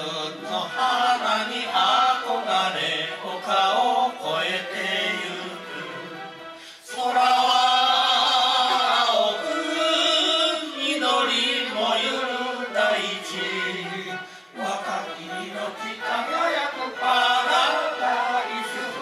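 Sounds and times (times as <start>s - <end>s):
group singing through microphone: 0.0s - 19.0s.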